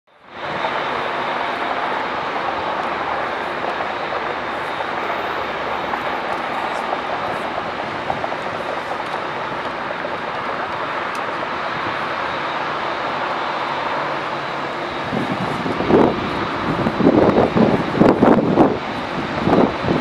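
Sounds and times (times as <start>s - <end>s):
high whine: 0.1s - 20.0s
jet engine noise: 0.1s - 20.0s.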